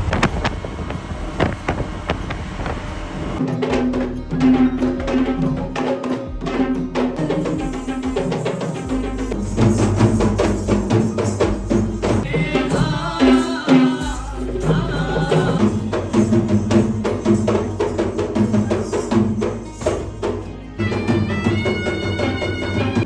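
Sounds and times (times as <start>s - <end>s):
rapid steady drumming: 0.0s - 23.0s
pitched folk melody: 3.4s - 23.0s.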